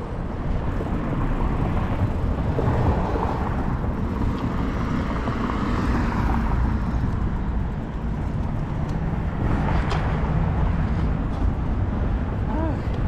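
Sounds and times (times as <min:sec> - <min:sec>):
bicycle tyre rumble: 0:00.0 - 0:13.0
wind buffeting microphone: 0:00.0 - 0:13.0.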